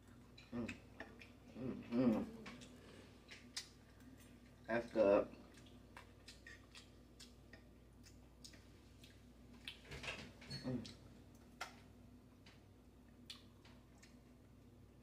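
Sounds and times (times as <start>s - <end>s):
mouth sounds of chewing: 0.0s - 9.9s, 10.5s - 11.7s, 13.1s - 14.6s.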